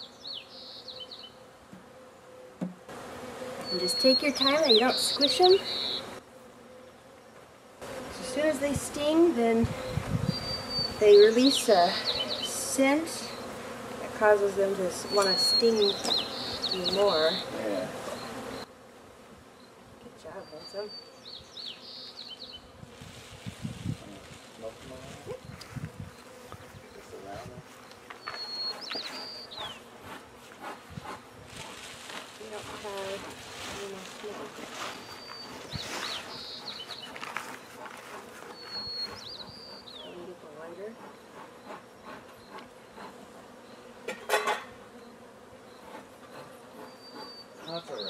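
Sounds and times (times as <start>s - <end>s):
honey bees buzzing: 0.0s - 48.0s.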